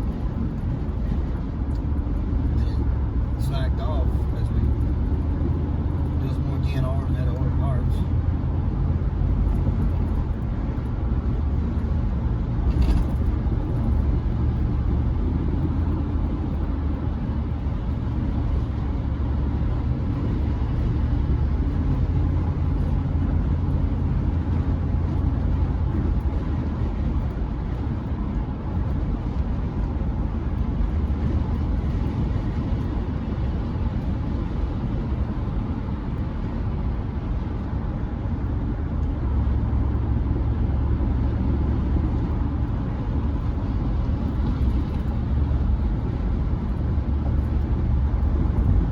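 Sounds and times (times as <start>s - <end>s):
pickup engine and road rumble: 0.0s - 48.9s.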